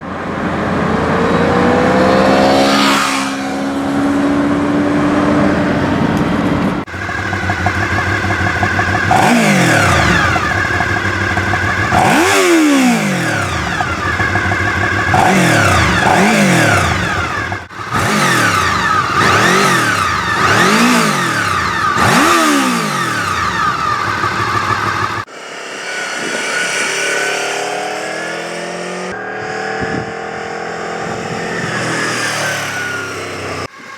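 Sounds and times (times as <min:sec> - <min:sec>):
motorcycle engine revving: 0:00.7 - 0:33.9.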